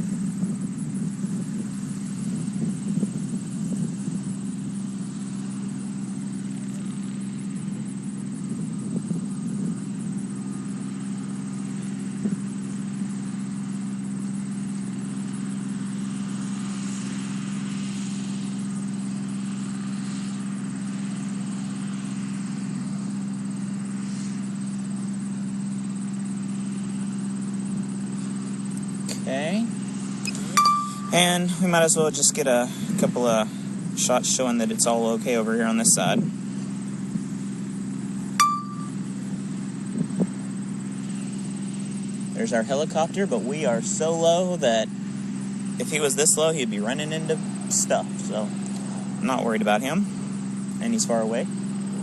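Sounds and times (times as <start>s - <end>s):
low motor hum: 0.0s - 52.0s.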